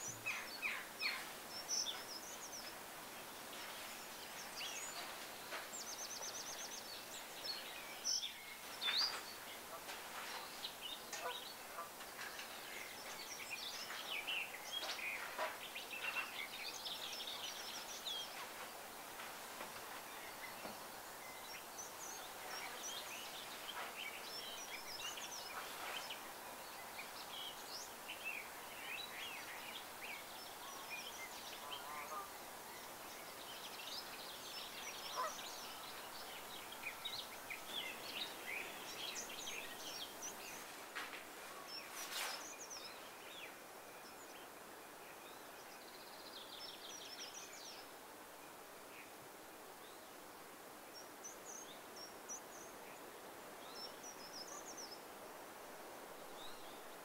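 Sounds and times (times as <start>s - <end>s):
small birds chirping: 0.0s - 49.2s
faint outdoor hiss: 0.0s - 57.0s.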